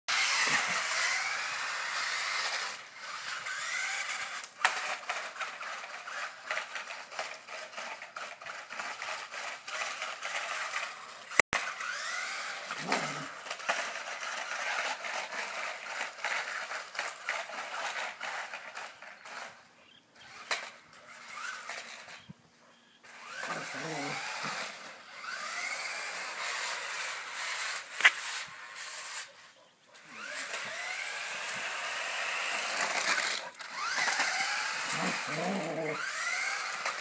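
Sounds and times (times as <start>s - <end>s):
toy car clicking and scraping: 0.1s - 22.4s, 23.0s - 37.0s
toy car electric motor whining: 0.1s - 22.4s, 23.0s - 37.0s.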